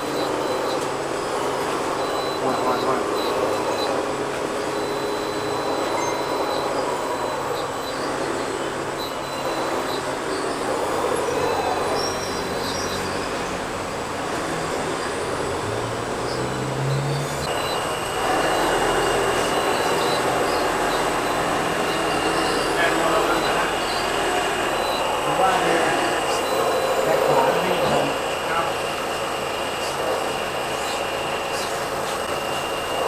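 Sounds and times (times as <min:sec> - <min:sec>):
electric motors and gears whining: 0:00.0 - 0:33.0.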